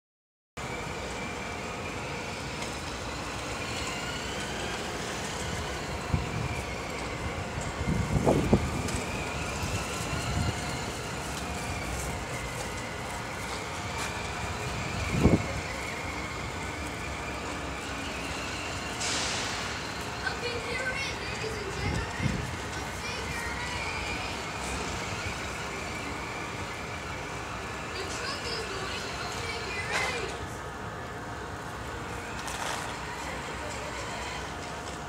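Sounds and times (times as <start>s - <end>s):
toy truck electric motor whining: 0.6s - 35.0s.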